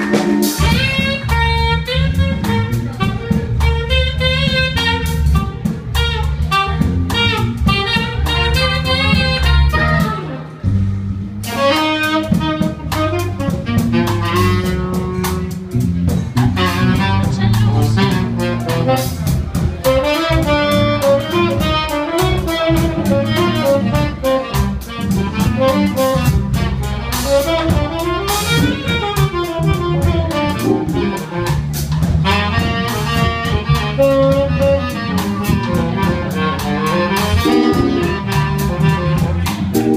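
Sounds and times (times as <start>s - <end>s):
jazz-funk band playing: 0.0s - 39.9s
saxophone: 0.0s - 39.9s.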